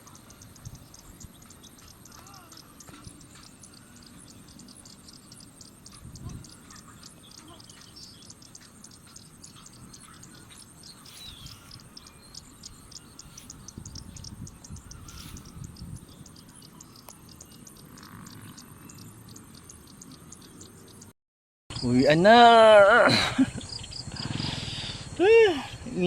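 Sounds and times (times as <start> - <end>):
birds calling: 0.0 - 21.1, 21.7 - 26.0
insects trilling and chirping: 0.0 - 21.1, 21.7 - 26.0.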